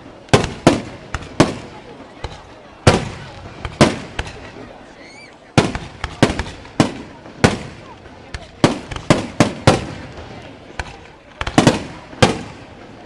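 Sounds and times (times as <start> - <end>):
fireworks bursting with echo: 0.0 - 13.0.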